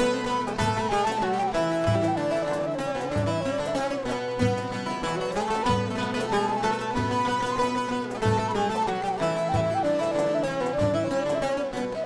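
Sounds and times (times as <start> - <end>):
string instruments playing folk melody: 0.0 - 12.0.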